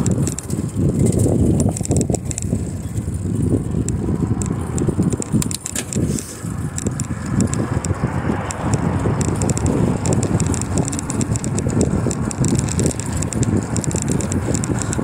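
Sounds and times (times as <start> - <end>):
light clicks and rattles: 0.0 - 15.0
wind buffeting microphone: 0.0 - 15.0.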